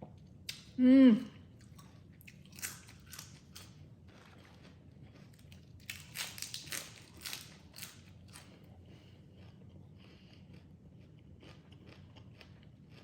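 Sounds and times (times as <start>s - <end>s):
crunching and chewing salad: 1.5s - 13.0s.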